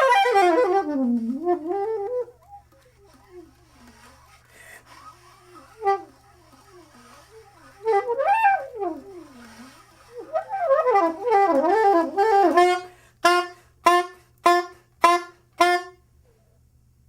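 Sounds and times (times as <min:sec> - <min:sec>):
saxophone playing: 0:00.0 - 0:16.3.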